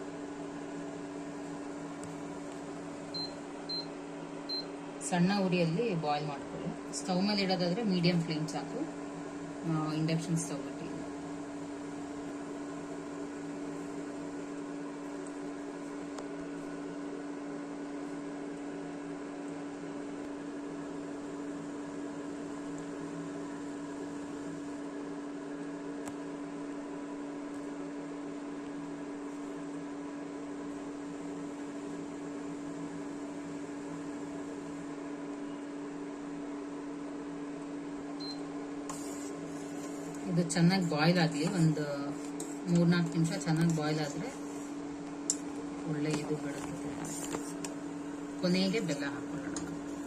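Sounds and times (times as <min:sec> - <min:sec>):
induction cooktop fan humming: 0:00.0 - 0:50.0.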